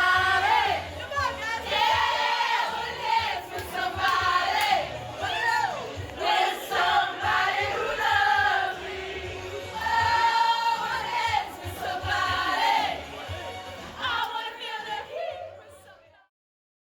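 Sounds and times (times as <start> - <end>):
music with low beat: 0.0 - 14.5
voices singing together: 0.0 - 16.2.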